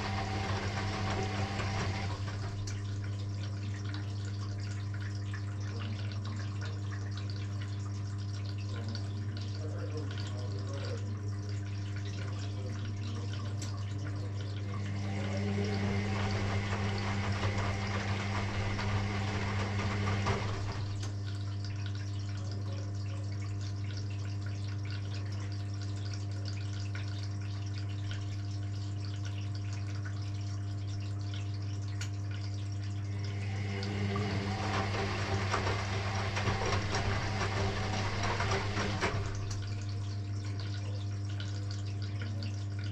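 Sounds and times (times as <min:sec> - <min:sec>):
washing machine low hum: 0:00.0 - 0:42.9
water sloshing in washing machine: 0:00.0 - 0:42.9.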